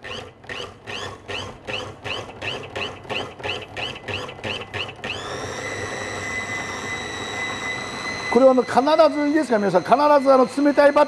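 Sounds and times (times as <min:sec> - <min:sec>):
food processor motor whine: 0:00.0 - 0:11.0.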